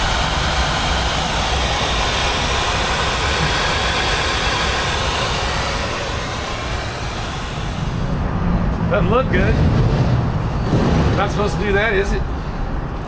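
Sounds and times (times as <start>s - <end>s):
engine exhaust rushing: 0.0s - 13.0s.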